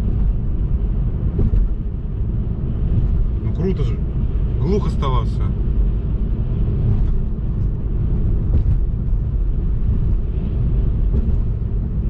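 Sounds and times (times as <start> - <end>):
road and wind rumble in a car: 0.0 - 12.0.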